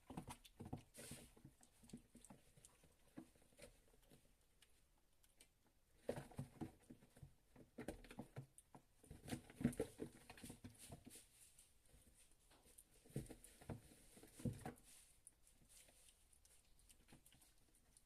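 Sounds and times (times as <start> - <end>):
kittens pattering and scratching: 0.0 - 18.0.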